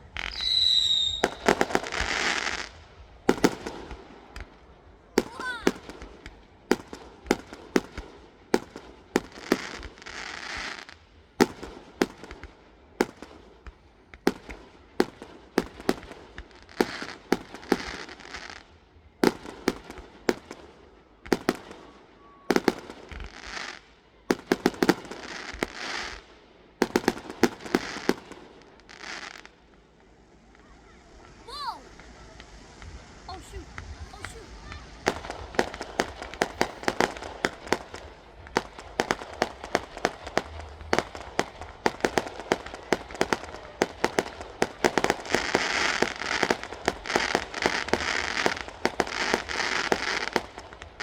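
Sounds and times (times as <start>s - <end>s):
fireworks crackling: 0.0s - 51.0s
fireworks exploding with bangs: 0.0s - 51.0s.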